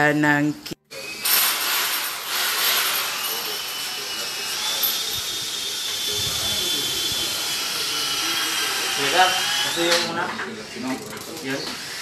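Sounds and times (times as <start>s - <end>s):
power drill whining: 0.9s - 12.0s.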